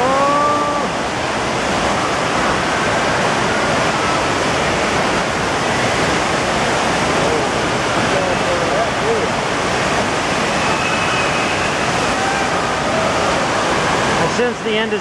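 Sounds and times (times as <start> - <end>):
water rushing and spraying: 0.0 - 15.0.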